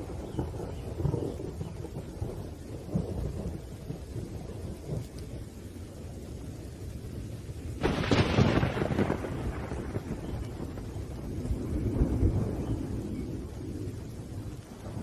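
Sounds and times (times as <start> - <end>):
rain: 0.0 - 15.0
thunder rumbling and cracking: 0.0 - 15.0.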